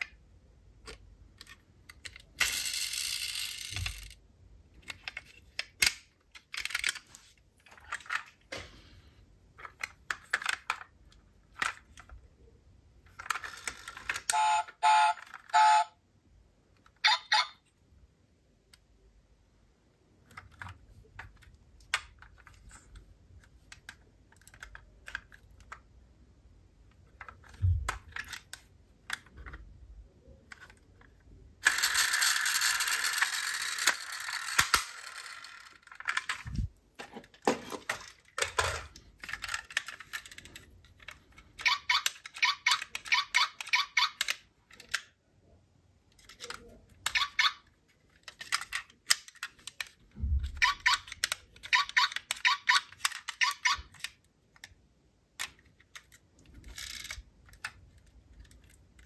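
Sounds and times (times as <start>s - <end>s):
toy cars clicking and clinking: 0.8s - 4.2s, 4.8s - 8.5s, 9.6s - 12.3s, 13.0s - 15.9s, 20.2s - 25.9s, 27.0s - 29.6s, 30.2s - 36.7s, 37.3s - 45.2s, 46.1s - 54.8s, 55.4s - 59.0s.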